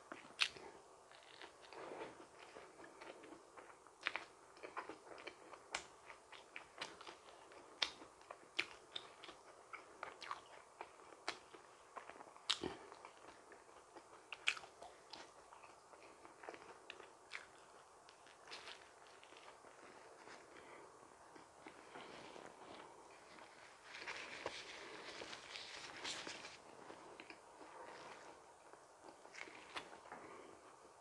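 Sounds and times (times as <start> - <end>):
chewing and biting donut: 0.1 - 30.4.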